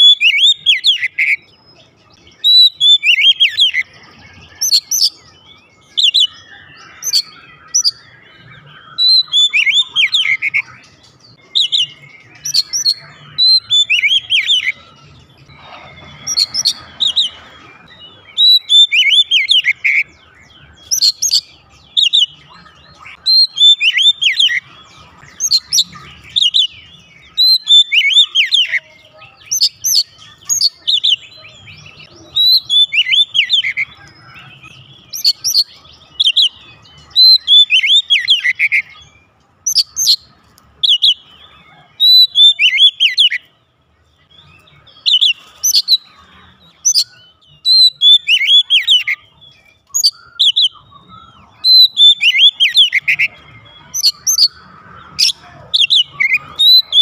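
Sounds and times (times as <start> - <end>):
magpie-robin singing: 0.0 - 57.0.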